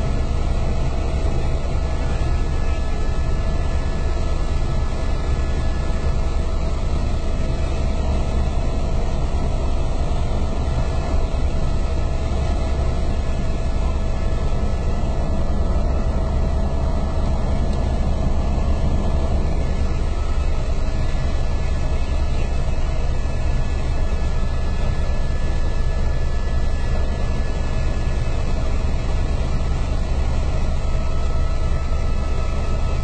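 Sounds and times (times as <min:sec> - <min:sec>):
faint steady whine: 0:00.0 - 0:33.0
helicopter engine and rotor noise: 0:00.0 - 0:33.0.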